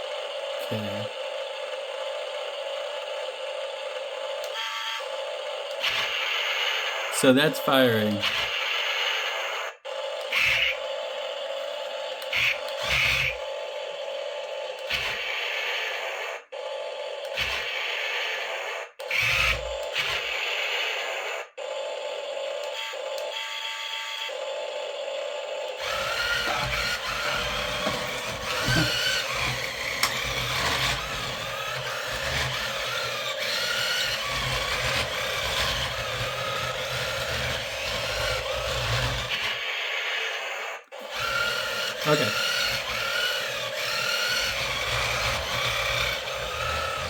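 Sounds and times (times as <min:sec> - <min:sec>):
toy motors whirring: 0:00.0 - 0:47.0
toy tank electronic sound effects: 0:00.0 - 0:47.0.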